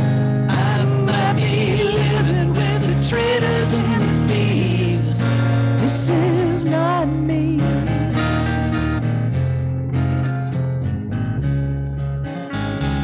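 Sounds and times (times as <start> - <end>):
held bass notes: 0.0 - 13.0.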